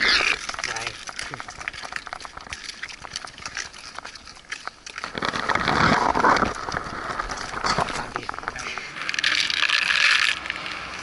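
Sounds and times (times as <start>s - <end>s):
loud rough rustling: 0.0s - 10.8s
boars crunching pellet food: 0.0s - 11.0s.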